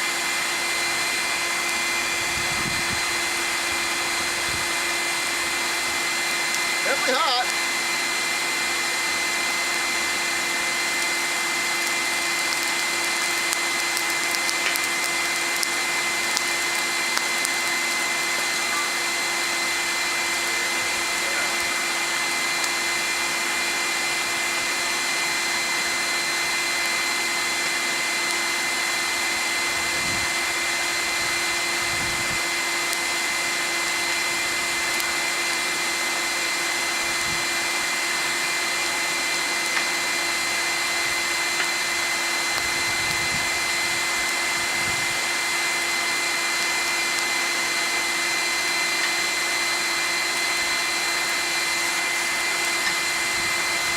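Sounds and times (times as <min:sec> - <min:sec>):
electric blower motor whining: 0:00.0 - 0:53.9.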